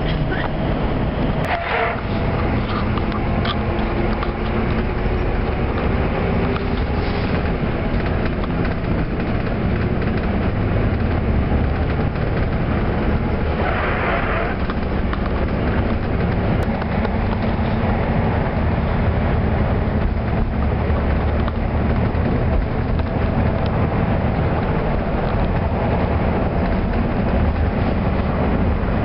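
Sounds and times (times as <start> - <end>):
vehicle rumble from inside: 0.0 - 29.0.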